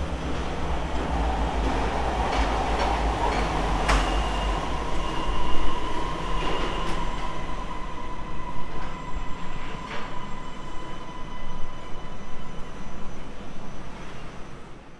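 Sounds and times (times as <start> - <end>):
train equipment high whine: 0.0 - 14.9.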